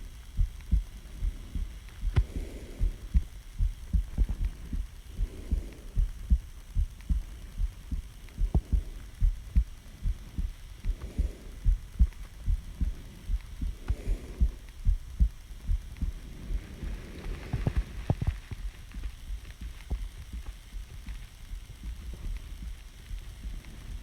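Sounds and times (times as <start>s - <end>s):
heartbeat thumps: 0.0s - 24.0s
soft breathing: 0.0s - 24.0s.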